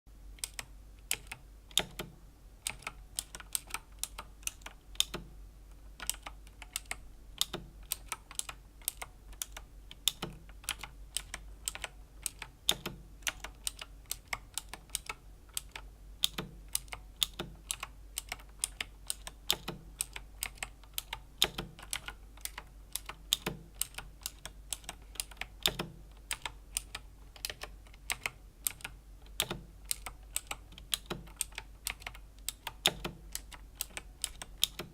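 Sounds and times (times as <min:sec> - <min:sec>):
mechanical keyboard clicks: 0:00.4 - 0:34.9.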